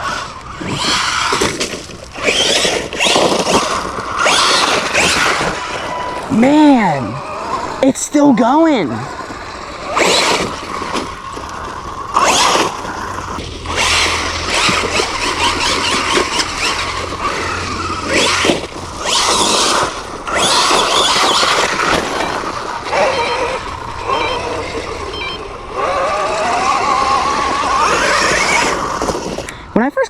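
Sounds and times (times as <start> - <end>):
tyres scrabbling on loose ground: 0.0 - 7.8, 8.9 - 30.0
electric motor whining: 0.0 - 29.7.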